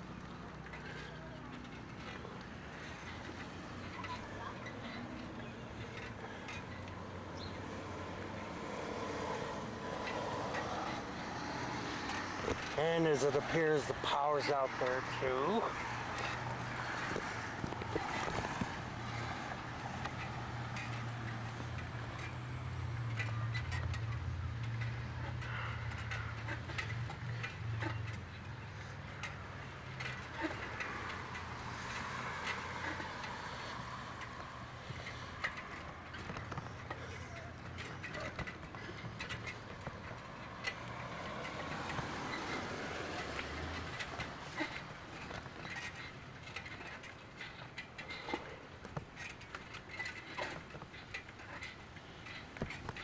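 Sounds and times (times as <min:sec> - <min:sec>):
outdoor background noise: 0:00.0 - 0:53.0.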